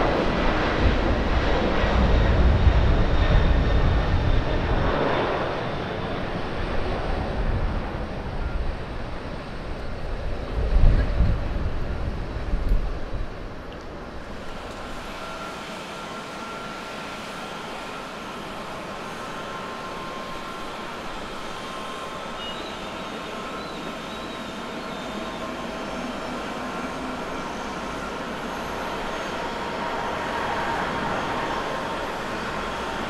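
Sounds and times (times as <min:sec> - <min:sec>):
distant jet engines rushing: 0:00.0 - 0:33.0.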